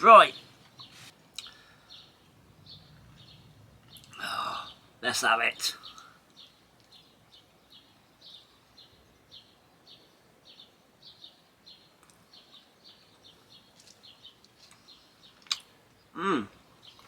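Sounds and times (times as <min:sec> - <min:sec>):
bird chirping faintly: 0:00.0 - 0:17.0.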